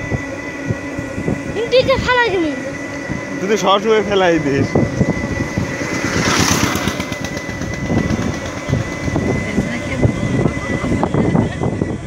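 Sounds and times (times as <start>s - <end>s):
steady high whine: 0.0s - 12.0s
vehicle rumble with jolts and rattles: 0.0s - 12.0s.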